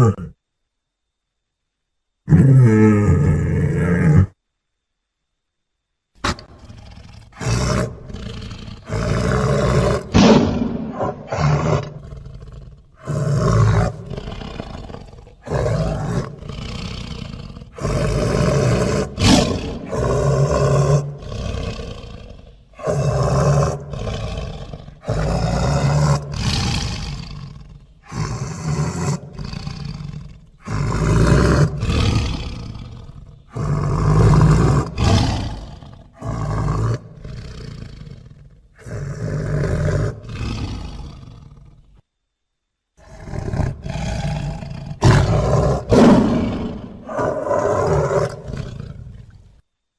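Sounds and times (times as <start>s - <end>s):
big cat roars and growls: 0.0s - 0.4s, 2.3s - 4.4s, 6.2s - 42.0s, 43.0s - 49.6s.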